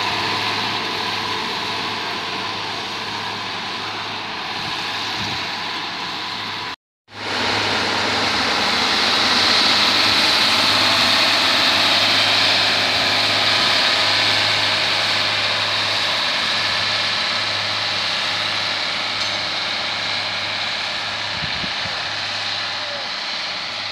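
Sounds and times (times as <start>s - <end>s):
diesel engine running steadily: 0.0s - 23.9s.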